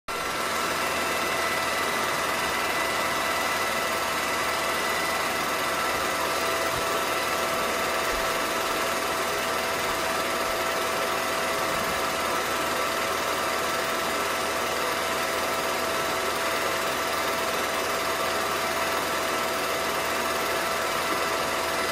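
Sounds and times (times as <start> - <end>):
film projector whirring: 0.1 - 21.9.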